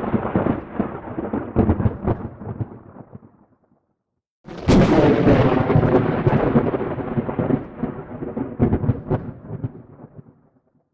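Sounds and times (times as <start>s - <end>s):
thunder crack and rumble: 0.0s - 3.4s, 4.5s - 10.4s.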